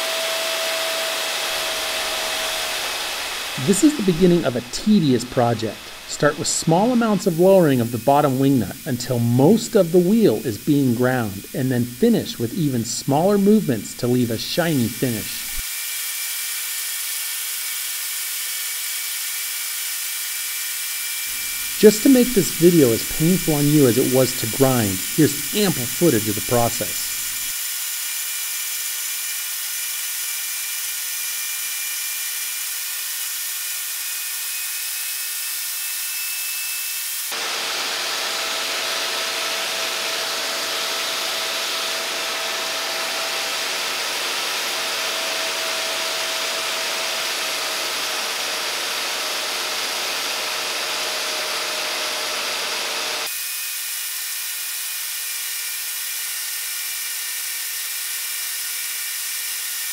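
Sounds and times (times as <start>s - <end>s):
die grinder high whine: 0.0s - 59.9s.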